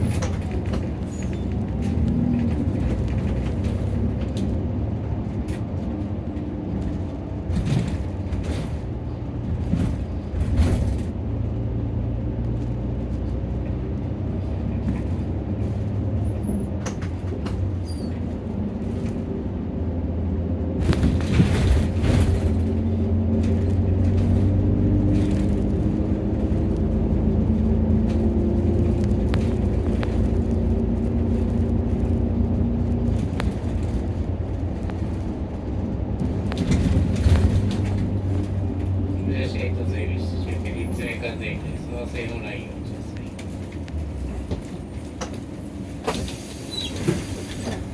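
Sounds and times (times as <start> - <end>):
bus diesel engine drone: 0.0 - 47.9
road rumble: 0.0 - 47.9.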